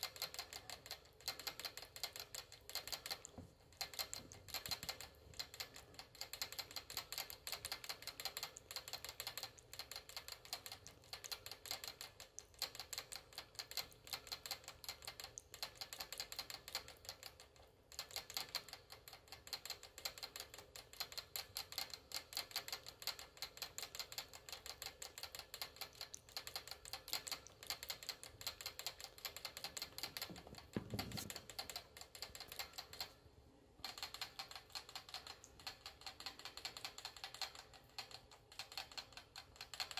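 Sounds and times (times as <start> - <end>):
rat licking water bottle spout: 0.0 - 33.2, 33.8 - 39.9.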